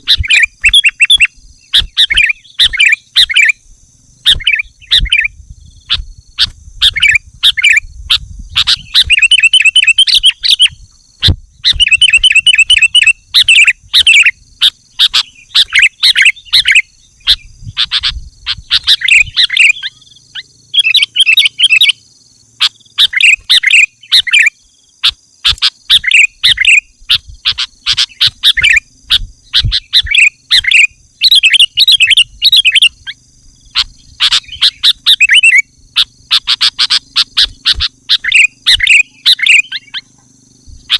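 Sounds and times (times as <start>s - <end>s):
bulbul chattering calls: 0.0s - 40.9s.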